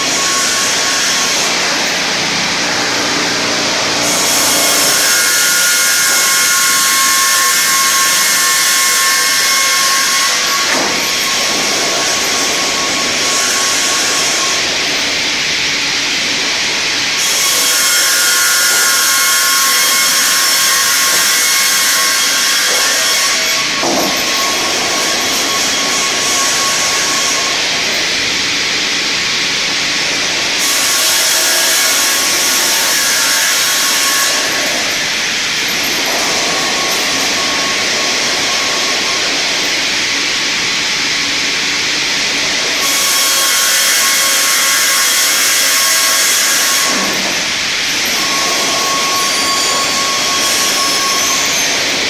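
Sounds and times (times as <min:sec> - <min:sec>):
circular saw blades cutting log: 0:00.0 - 0:52.0.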